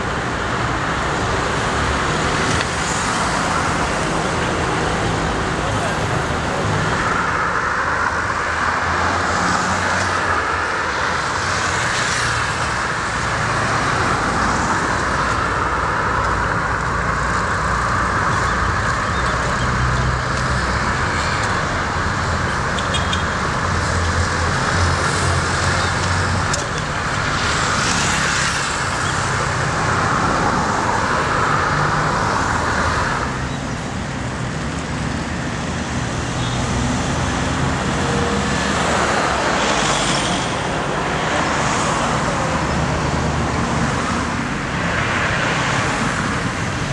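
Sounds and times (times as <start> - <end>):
cars passing: 0.0 - 46.9.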